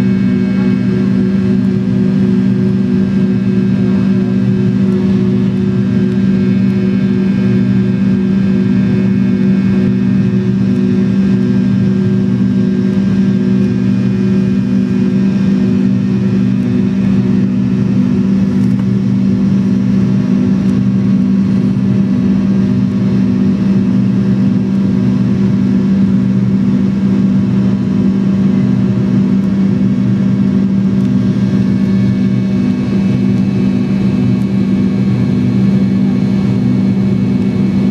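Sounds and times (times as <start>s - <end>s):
jet engine drone in cabin: 0.0s - 37.9s.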